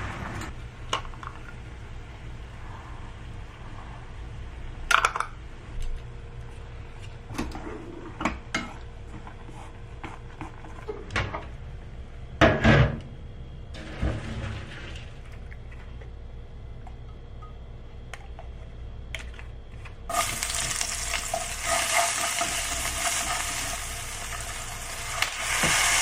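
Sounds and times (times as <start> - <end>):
steady low hum: 0.0 - 25.5.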